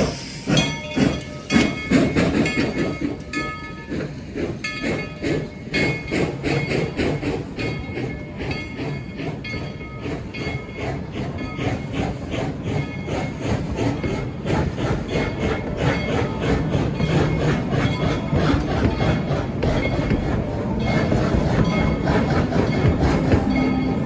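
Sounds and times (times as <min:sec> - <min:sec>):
steam train clattering: 0:00.0 - 0:24.0.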